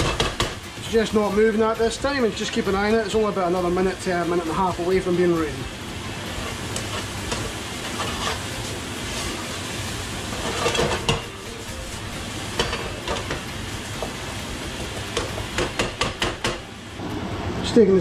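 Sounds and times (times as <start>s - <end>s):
cabbage sizzling in a frying pan: 0.0s - 17.1s.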